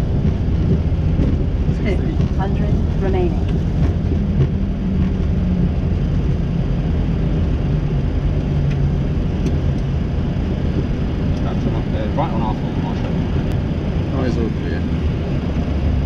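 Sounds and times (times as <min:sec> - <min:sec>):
airflow noise: 0:00.0 - 0:16.0
airplane wheels and engines rumbling: 0:00.0 - 0:16.0.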